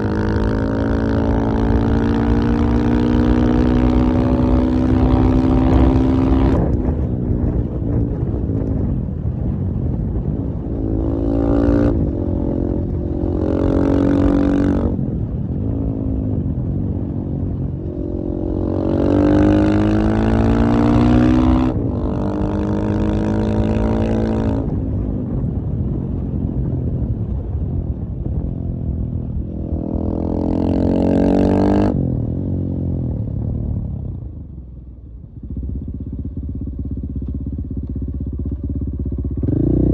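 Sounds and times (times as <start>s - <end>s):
motorcycle engine revving: 0.0s - 9.0s, 10.6s - 25.5s, 29.2s - 34.5s, 35.3s - 39.9s.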